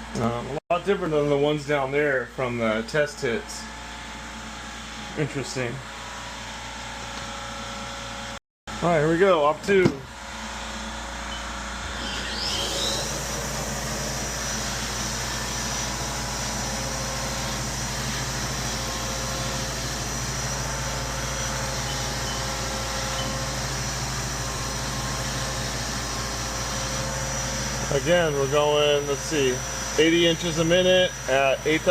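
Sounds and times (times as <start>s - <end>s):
mill spindle whining: 6.0s - 31.9s.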